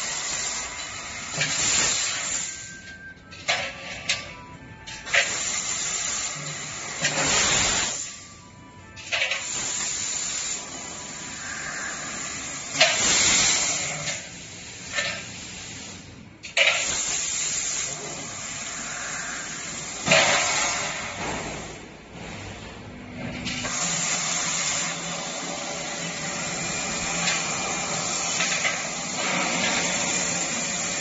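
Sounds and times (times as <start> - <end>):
gas hissing from cutting nozzle: 0.0 - 2.8, 5.0 - 8.4, 9.1 - 21.8, 23.6 - 31.0.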